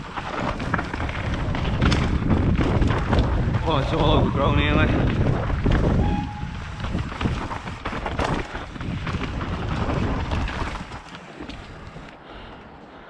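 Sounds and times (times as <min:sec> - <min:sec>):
mountain bike rattling on trail: 0:00.0 - 0:12.8
wind buffeting microphone: 0:00.0 - 0:13.0.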